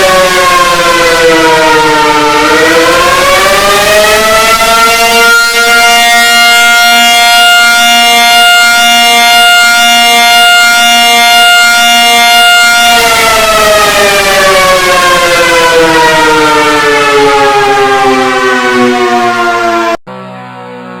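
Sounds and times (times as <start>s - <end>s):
civil defense siren: 0.0s - 21.0s.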